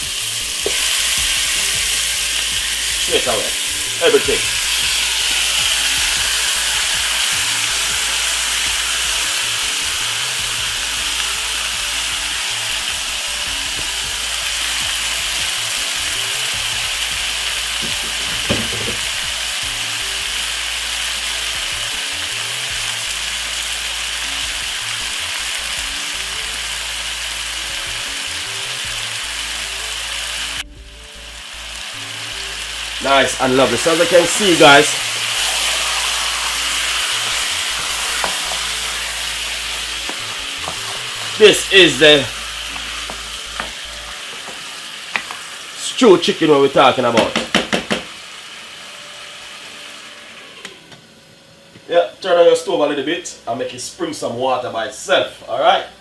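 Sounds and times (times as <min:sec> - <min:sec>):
chicken sizzling in a frying pan: 0:00.0 - 0:56.0.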